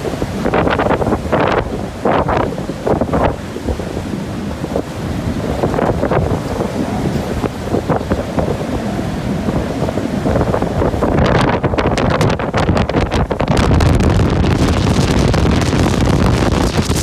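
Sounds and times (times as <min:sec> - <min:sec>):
heavy seas washing: 0:00.0 - 0:17.0
wind blowing across microphone: 0:00.0 - 0:17.0.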